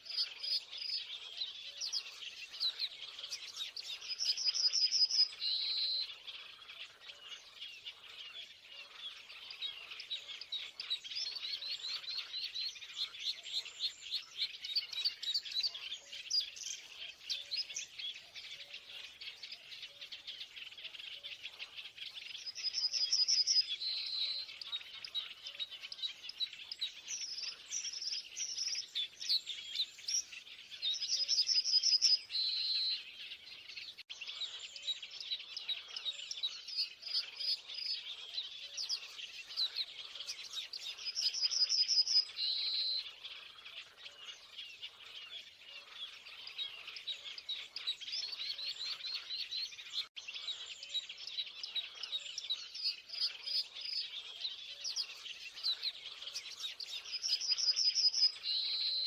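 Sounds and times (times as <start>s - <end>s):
small birds chirping chorus: 0.0s - 59.0s.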